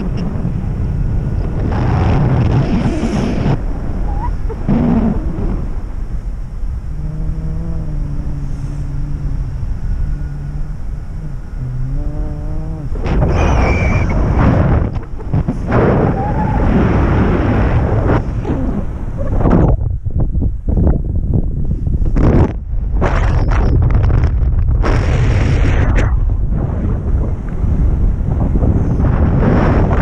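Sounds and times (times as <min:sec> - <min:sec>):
low hum with overtones: 0:00.0 - 0:30.0
wind rushing over microphone: 0:00.0 - 0:30.0.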